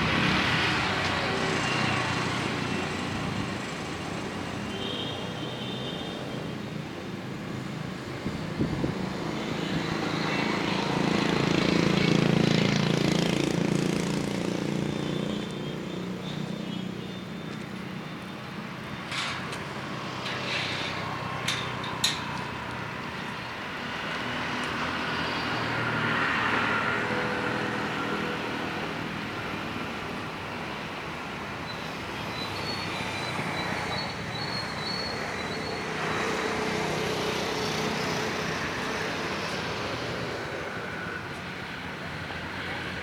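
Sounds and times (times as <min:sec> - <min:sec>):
passing vehicles rumbling: 0:00.0 - 0:04.7, 0:06.2 - 0:43.0.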